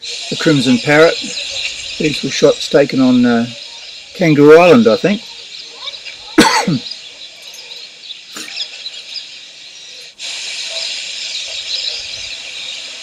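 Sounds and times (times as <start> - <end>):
faint high bird chirping: 0.0 - 13.0
harsh bird call: 0.0 - 13.0
steady hiss: 0.0 - 13.0.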